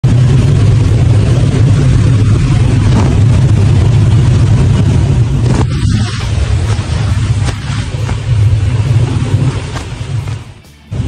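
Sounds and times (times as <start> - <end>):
airplane engine and propeller drone: 0.0 - 11.0
rushing wind noise: 0.0 - 11.0.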